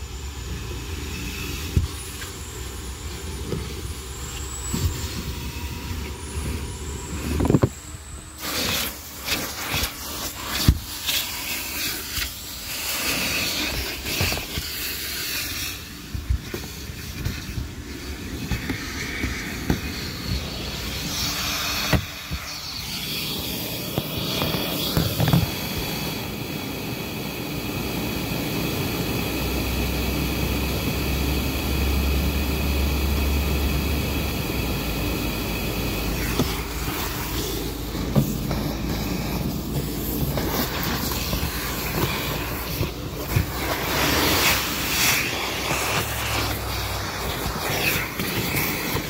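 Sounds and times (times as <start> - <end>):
high motor whine: 0.0 - 49.0
vacuum cleaner running: 0.0 - 49.0.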